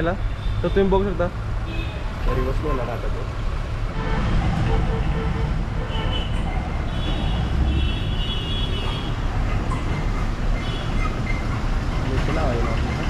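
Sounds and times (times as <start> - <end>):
small truck engine rumbling: 0.0 - 13.0.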